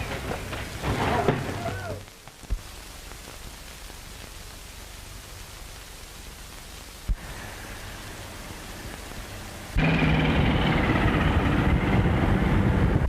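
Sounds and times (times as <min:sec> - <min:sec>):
film soundtrack hiss: 0:00.0 - 0:13.0.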